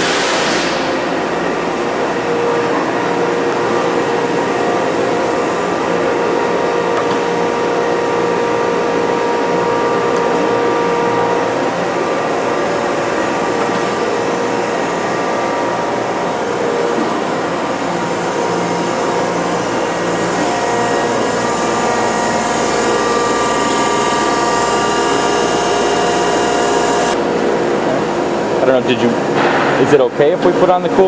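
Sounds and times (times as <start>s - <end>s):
surface grinder whine: 0.0s - 28.0s.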